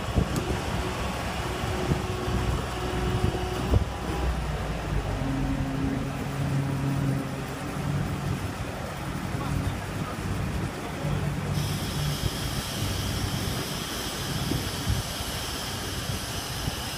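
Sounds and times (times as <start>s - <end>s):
diesel engine rumbling: 0.0s - 16.9s
strong steady hum: 0.0s - 16.9s.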